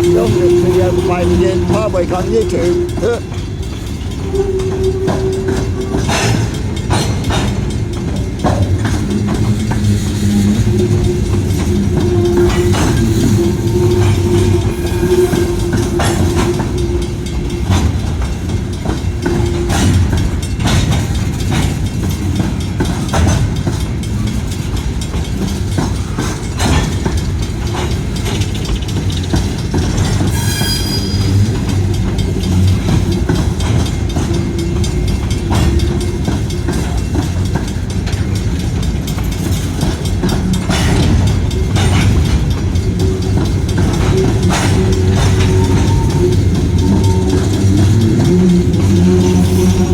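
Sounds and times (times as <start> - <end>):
train cars rumbling: 0.0 - 49.9
wheels clicking over rails: 0.0 - 49.9.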